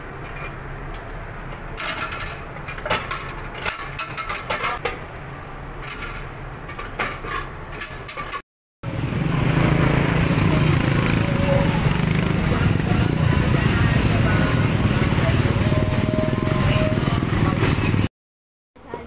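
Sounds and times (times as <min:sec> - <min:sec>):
outdoor traffic rumble: 0:00.0 - 0:18.1.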